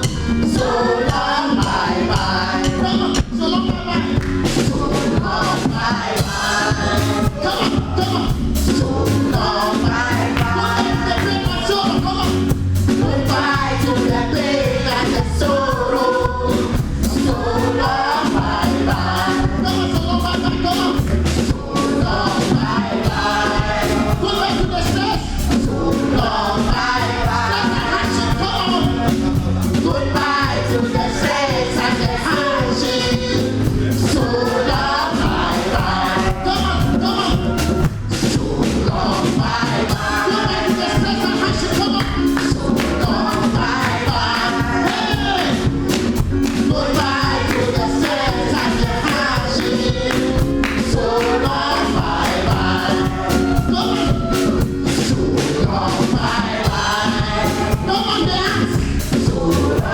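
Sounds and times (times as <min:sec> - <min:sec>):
gospel choir singing: 0:00.0 - 0:59.9
live band with steady beat: 0:00.0 - 0:59.9.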